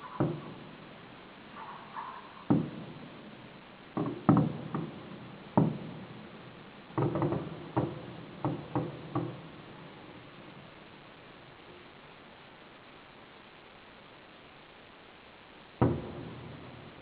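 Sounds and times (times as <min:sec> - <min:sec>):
fireworks exploding: 0:02.3 - 0:17.0.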